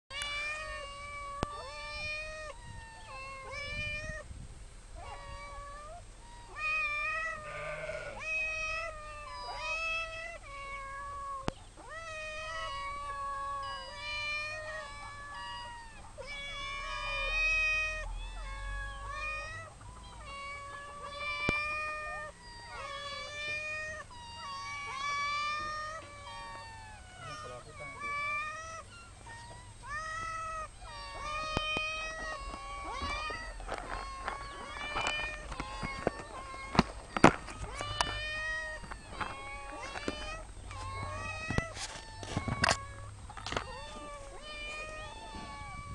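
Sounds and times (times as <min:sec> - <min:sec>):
cats meowing: 0:00.1 - 0:45.9.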